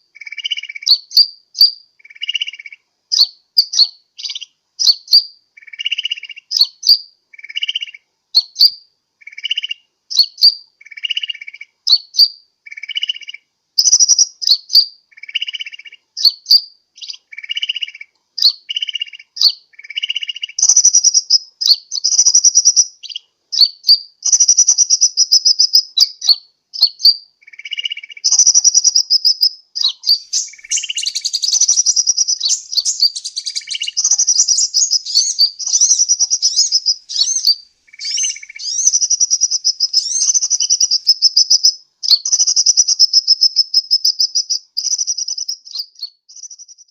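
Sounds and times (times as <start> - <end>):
rapid high bird twittering: 0.0 - 46.9.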